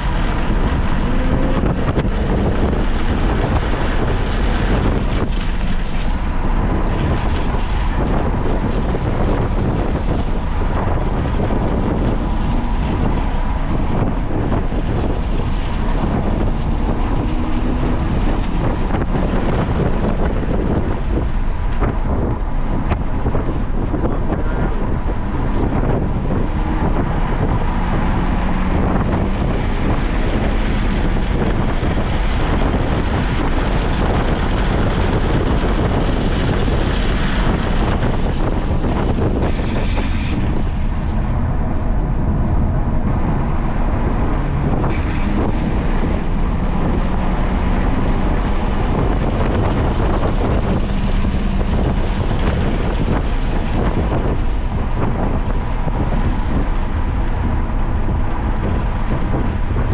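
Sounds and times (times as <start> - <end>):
faint car engine: 0.0 - 59.9
road noise: 0.0 - 59.9
wind buffeting microphone: 0.0 - 59.9.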